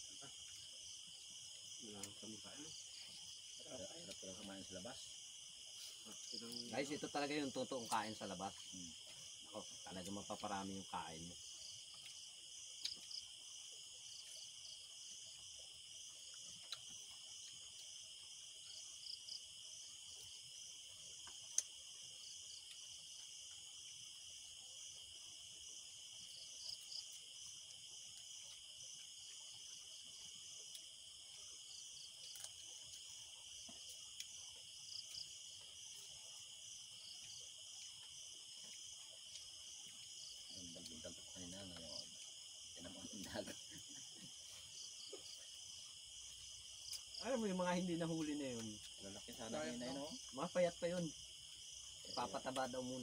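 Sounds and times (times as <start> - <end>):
crickets trilling: 0.0 - 53.0.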